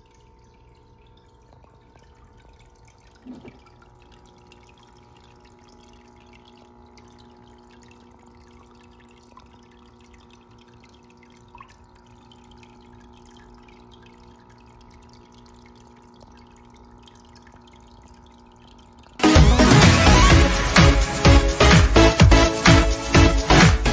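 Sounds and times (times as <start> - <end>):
soft water drips: 0.0 - 19.2
water trickling: 0.0 - 19.2
aquarium equipment hum: 0.0 - 23.9.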